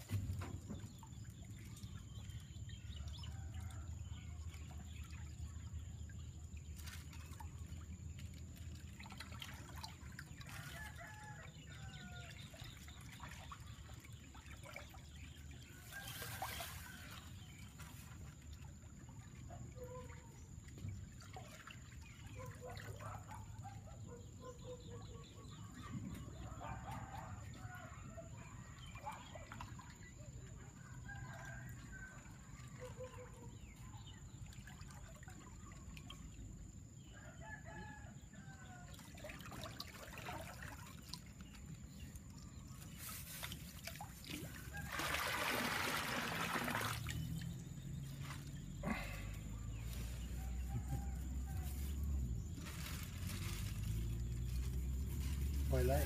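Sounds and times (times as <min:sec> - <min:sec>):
water trickling and sloshing: 0:00.0 - 0:56.0.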